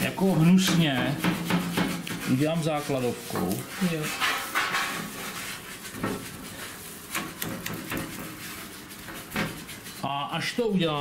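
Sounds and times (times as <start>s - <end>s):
paintbrush scrubbing on metal: 0.0s - 11.0s.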